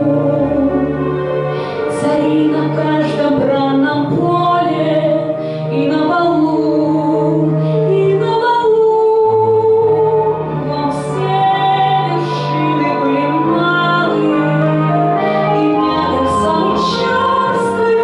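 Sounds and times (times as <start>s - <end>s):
woman singing: 0.0s - 1.1s, 1.7s - 18.0s.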